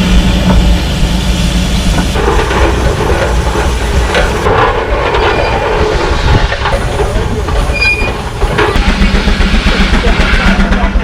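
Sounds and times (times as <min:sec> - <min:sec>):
steam traction engine rumbling: 0:00.0 - 0:11.0.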